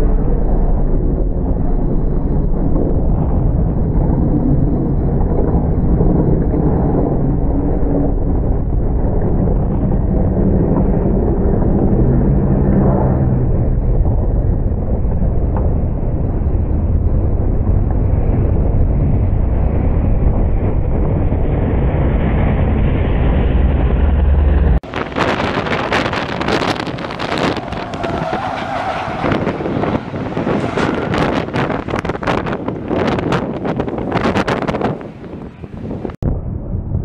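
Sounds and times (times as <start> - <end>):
race truck engines: 0.0 - 36.2
wind buffeting microphone: 0.0 - 37.0.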